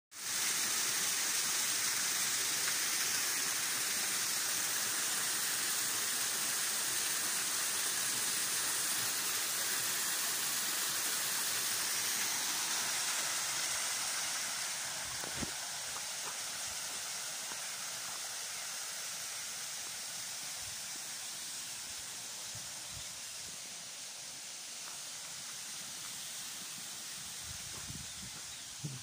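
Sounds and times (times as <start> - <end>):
waterfall splashing: 0.2 - 29.0.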